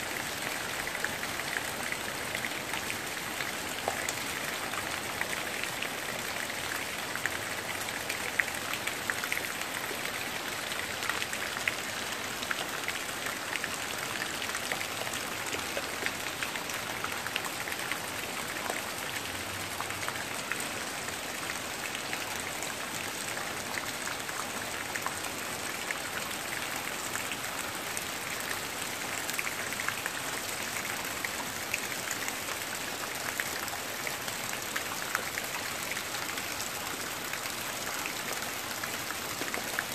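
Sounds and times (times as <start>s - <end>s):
steady rain hiss: 0.0s - 39.9s
raindrops ticking on surfaces: 0.2s - 39.9s.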